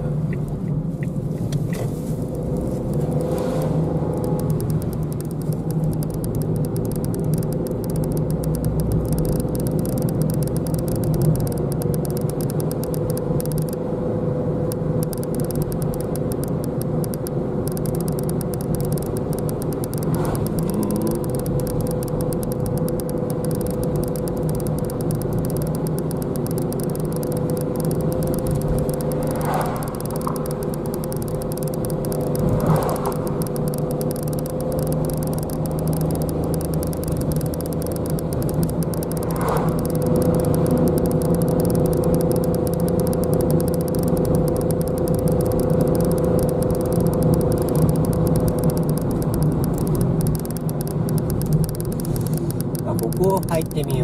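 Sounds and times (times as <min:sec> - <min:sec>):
road and engine rumble: 0:00.0 - 0:54.0
steady humming tone: 0:02.1 - 0:54.0.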